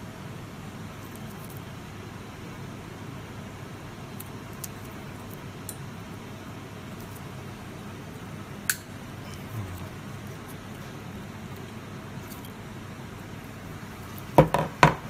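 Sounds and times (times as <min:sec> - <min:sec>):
low room noise: 0:00.0 - 0:15.0.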